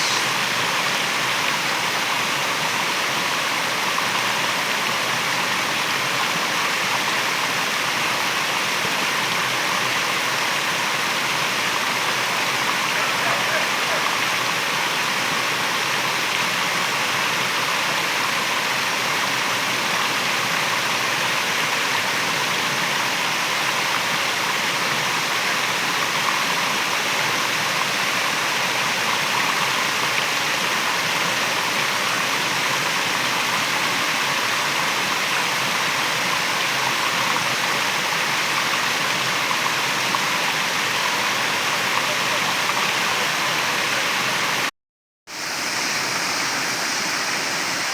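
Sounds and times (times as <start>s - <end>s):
waterfall rushing: 0.0s - 44.7s, 45.3s - 47.9s.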